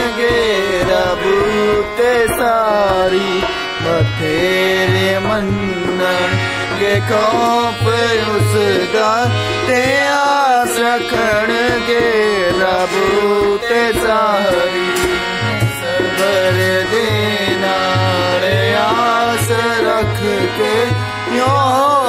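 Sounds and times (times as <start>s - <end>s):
harmonium melody: 0.0s - 22.0s
person singing: 0.0s - 22.0s.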